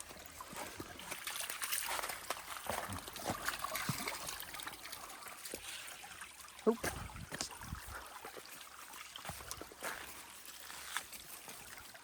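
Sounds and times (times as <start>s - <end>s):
small water splashes: 0.0s - 12.0s
stream trickling: 0.0s - 12.0s.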